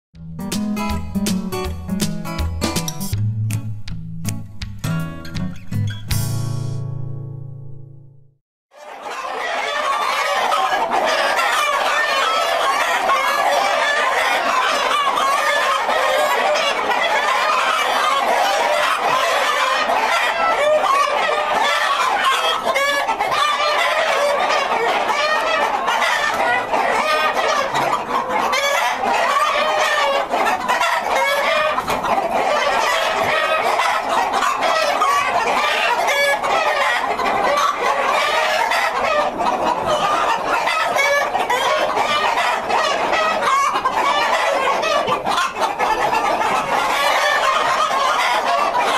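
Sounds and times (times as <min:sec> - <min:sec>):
chickens clucking: 0:08.8 - 0:48.9
roosters crowing: 0:08.8 - 0:48.9.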